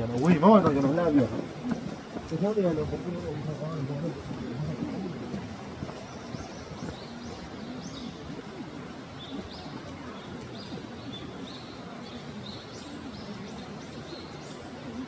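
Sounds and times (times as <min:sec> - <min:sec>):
faint distant voices: 0:00.0 - 0:15.0
steady background hiss: 0:00.0 - 0:15.0.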